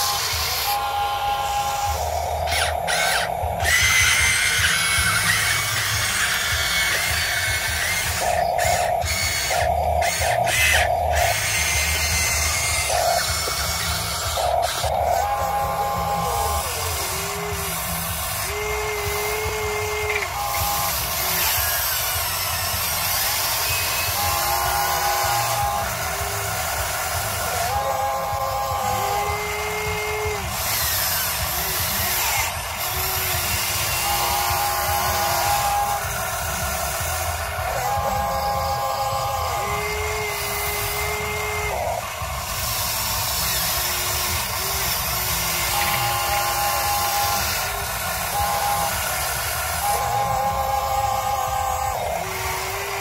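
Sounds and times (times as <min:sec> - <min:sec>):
electric pump whirring: 0:00.0 - 0:53.0
high whine: 0:00.0 - 0:53.0.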